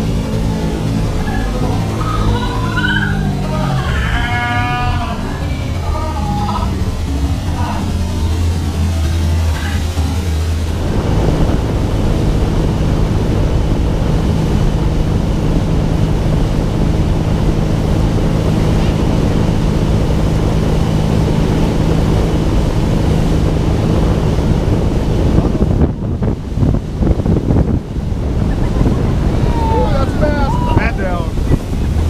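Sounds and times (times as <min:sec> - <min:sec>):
boat engine humming: 0:00.0 - 0:32.0
churning wake rushing: 0:00.0 - 0:32.0
wind buffeting microphone: 0:00.0 - 0:32.0.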